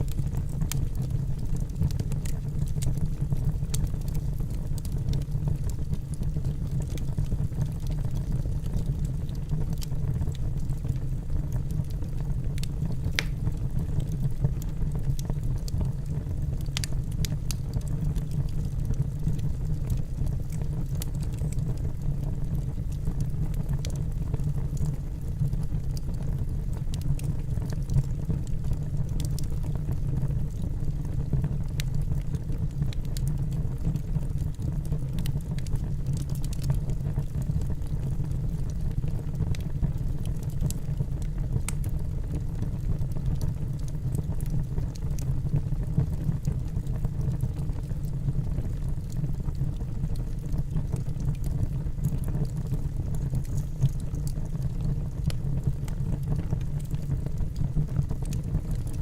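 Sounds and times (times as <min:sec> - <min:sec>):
fire flames rumbling: 0:00.0 - 0:59.0
logs crackling and popping: 0:00.0 - 0:59.0.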